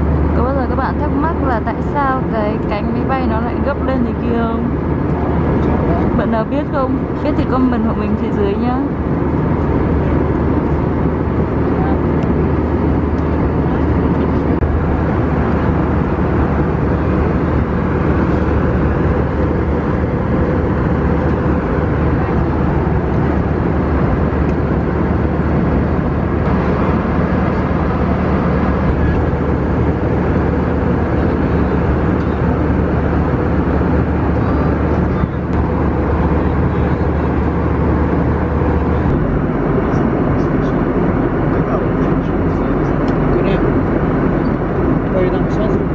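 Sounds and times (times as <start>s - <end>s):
constant low hum: 0.0s - 45.9s
jet cabin engine and airflow noise: 0.0s - 45.9s.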